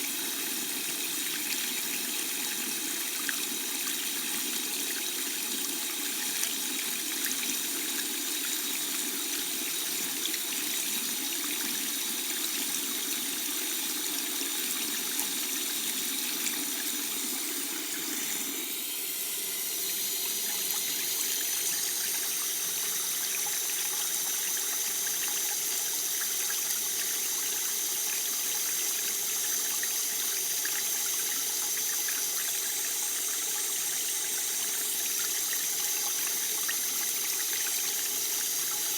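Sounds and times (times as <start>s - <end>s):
water tap running: 0.0s - 38.9s.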